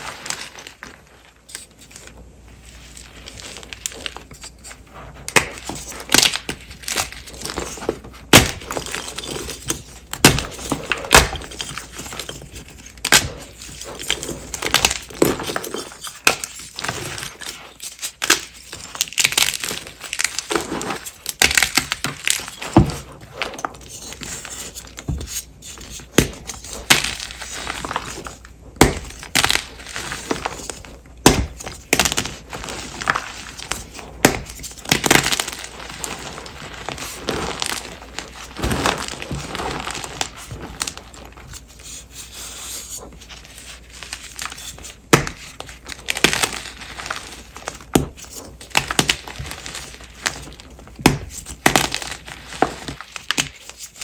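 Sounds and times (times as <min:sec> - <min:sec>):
chalk pieces crunching: 0:00.0 - 0:54.0.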